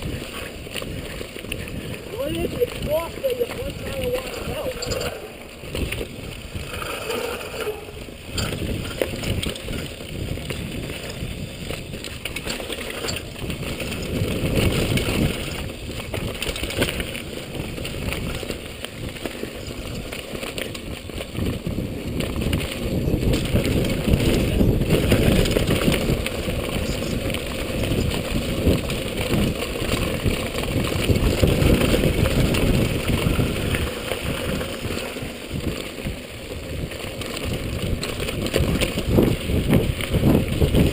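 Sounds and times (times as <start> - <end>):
bike rattling over bumps: 0.0 - 40.9
bike tyre noise on dirt: 0.0 - 40.9
wind on microphone: 0.0 - 40.9.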